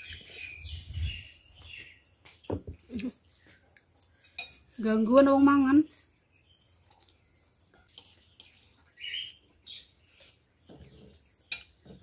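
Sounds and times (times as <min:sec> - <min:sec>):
bird chirping: 0:00.0 - 0:04.4, 0:05.2 - 0:12.0.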